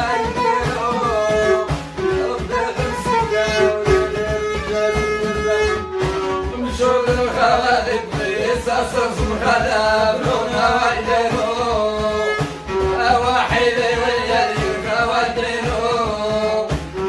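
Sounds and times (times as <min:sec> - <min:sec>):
men singing folk song: 0:00.0 - 0:04.6, 0:06.5 - 0:17.0
frame drum beat: 0:00.0 - 0:17.0
violin: 0:00.0 - 0:17.0.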